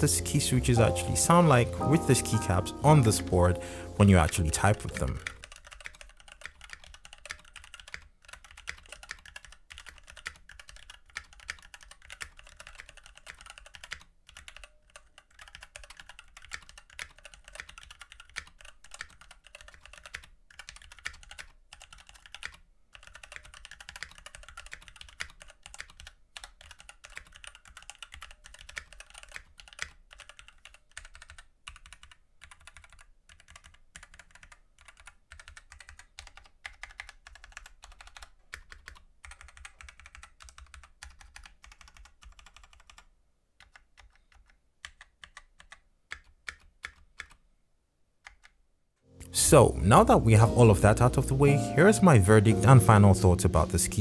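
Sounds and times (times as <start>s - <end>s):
mechanical keyboard typing: 0.1s - 47.4s, 48.2s - 48.6s.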